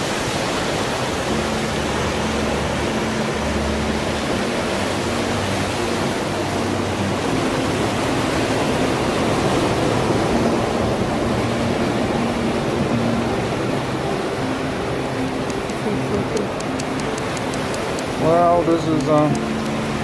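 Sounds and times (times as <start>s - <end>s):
surf washing over rocks: 0.0s - 20.0s.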